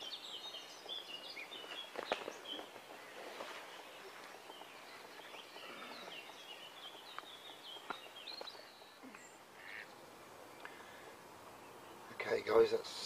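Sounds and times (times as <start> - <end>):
high chirping birdsong: 0.0 - 13.0.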